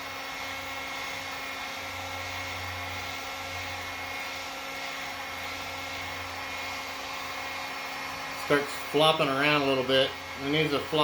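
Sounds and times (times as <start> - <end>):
heat gun blowing: 0.0 - 11.0.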